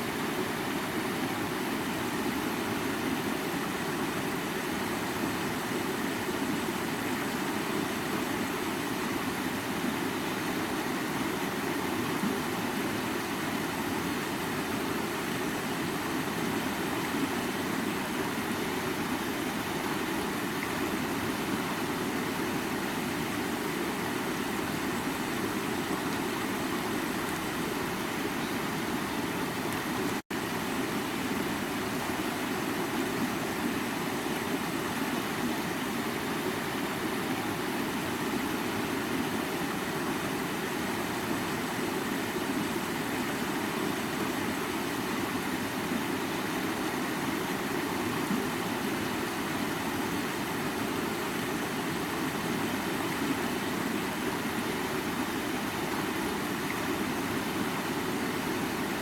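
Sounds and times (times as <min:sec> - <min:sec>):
stream water rushing and babbling: 0:00.0 - 0:59.0.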